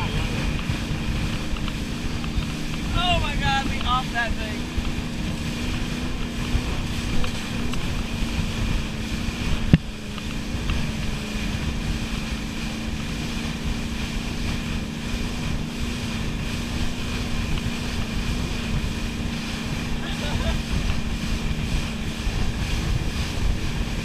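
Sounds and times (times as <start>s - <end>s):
boat engine running: 0.0s - 24.0s
wake churning: 0.0s - 24.0s
wind buffeting microphone: 0.0s - 24.0s.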